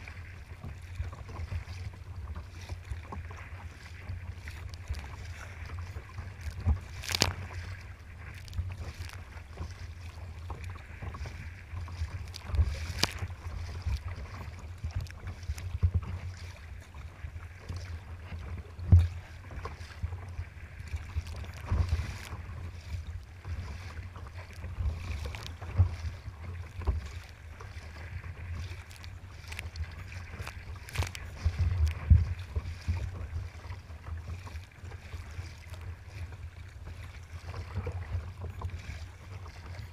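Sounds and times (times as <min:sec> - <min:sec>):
water slapping against hull: 0:00.0 - 0:39.9.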